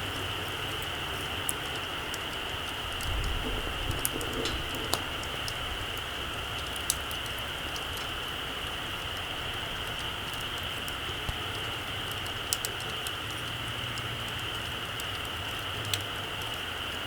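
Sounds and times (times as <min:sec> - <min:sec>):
campfire hissing: 0:00.0 - 0:17.0
campfire pops and snaps: 0:00.1 - 0:16.7.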